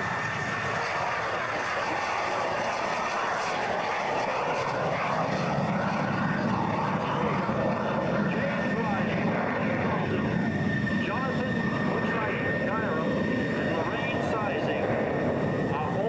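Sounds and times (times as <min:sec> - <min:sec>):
jet engine at takeoff: 0:00.0 - 0:16.0.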